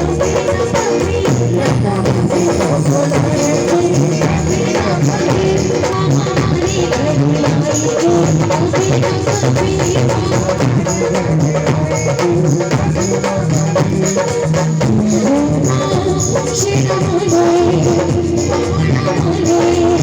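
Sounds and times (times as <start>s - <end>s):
devotional music with drum: 0.0s - 20.0s.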